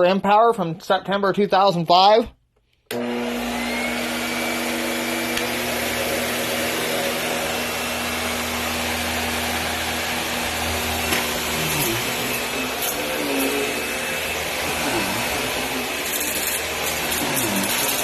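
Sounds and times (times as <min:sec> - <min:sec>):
upright vacuum cleaner running: 0:02.9 - 0:18.0
motor whine: 0:03.0 - 0:18.0.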